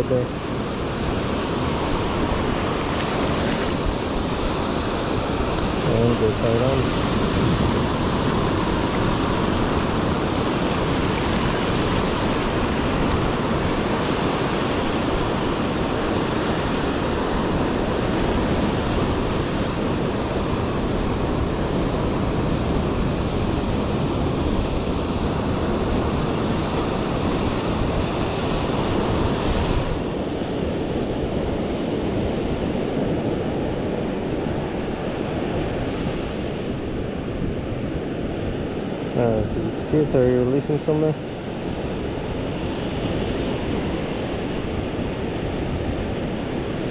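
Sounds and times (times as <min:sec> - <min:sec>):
ocean surf washing ashore: 0:00.0 - 0:46.9
wind rumbling on microphone: 0:00.0 - 0:46.9.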